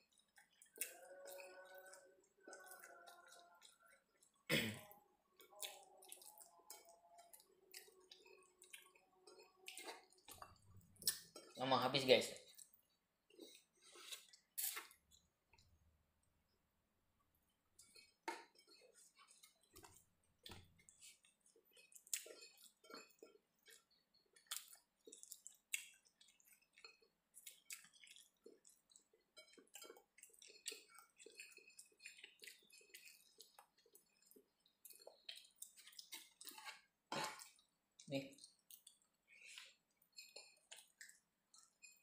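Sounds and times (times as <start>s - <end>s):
person chewing food: 0.0s - 11.6s, 12.4s - 16.5s, 17.2s - 42.0s.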